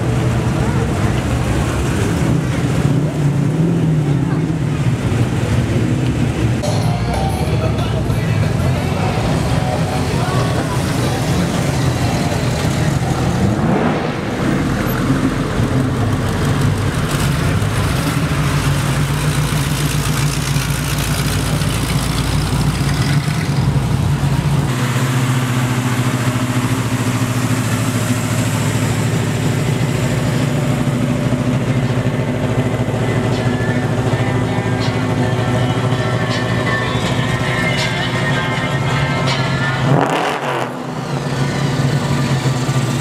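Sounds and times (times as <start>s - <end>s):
classic car engines idling: 0.0s - 43.0s
engine running at low pitch: 0.0s - 43.0s.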